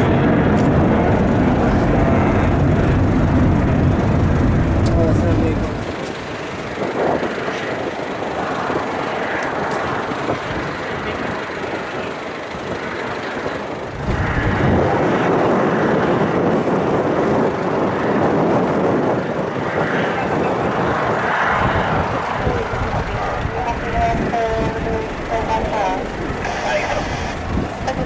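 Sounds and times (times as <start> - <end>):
jet engines roaring: 0.0 - 28.0
wind buffeting microphone: 0.0 - 28.0.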